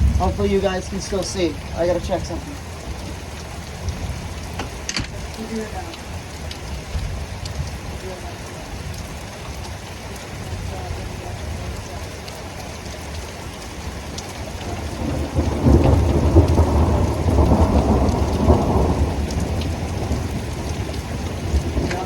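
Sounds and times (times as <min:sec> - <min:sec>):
heavy rain pouring: 0:00.0 - 0:22.0
thunder rumbling: 0:00.0 - 0:22.0.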